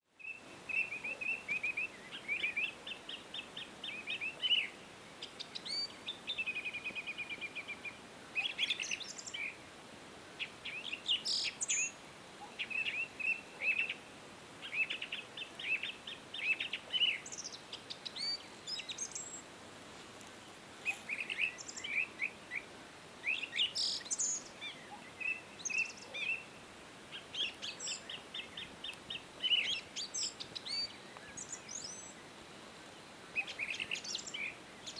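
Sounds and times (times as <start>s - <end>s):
faint steady hiss: 0.0s - 34.9s
songbirds singing and chirping: 0.1s - 19.6s, 20.2s - 34.9s.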